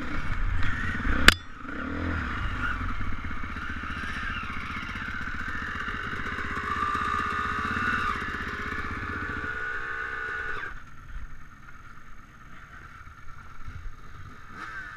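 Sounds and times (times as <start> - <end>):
dirt bike engine running: 0.0 - 14.9.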